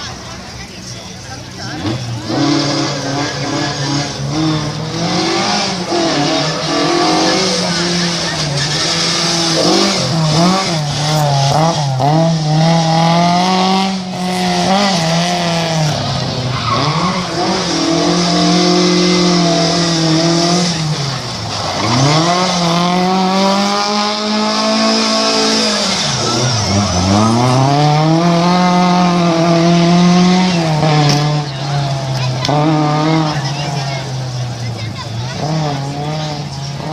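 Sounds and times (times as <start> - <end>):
rally car engine revving: 0.0 - 36.9.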